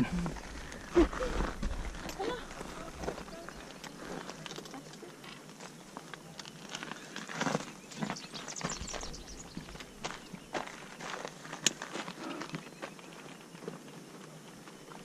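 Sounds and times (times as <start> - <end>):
footsteps crunching on gritty stone: 0.1 - 15.0.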